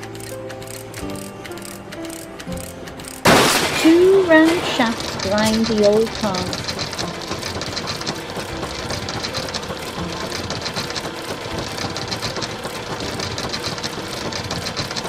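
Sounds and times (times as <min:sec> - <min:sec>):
car shredder grinding: 0:02.8 - 0:15.0.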